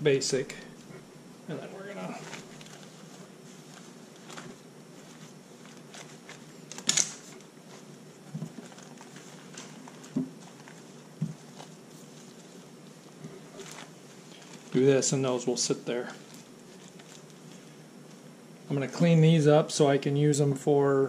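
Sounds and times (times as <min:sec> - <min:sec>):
cloth rustling: 0:00.8 - 0:18.4.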